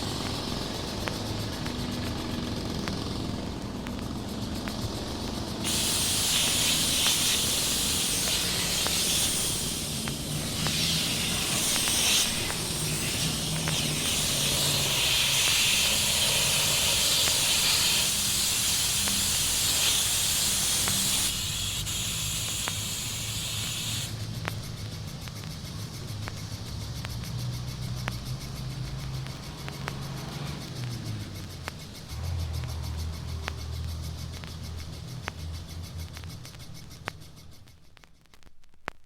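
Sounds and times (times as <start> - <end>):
gas hissing: 0.0 - 38.3.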